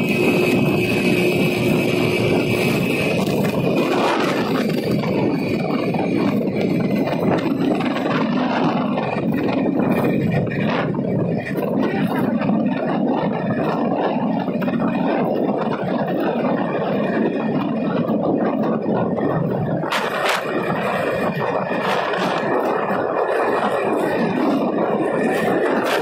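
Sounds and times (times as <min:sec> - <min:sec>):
faint steady whine: 0:00.0 - 0:26.0
motorbike engine running: 0:00.0 - 0:26.0
wind rushing over microphone: 0:00.0 - 0:26.0.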